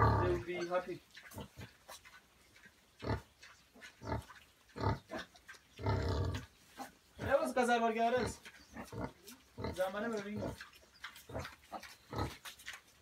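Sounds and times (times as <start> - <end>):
pigs grunting: 0.0 - 12.8.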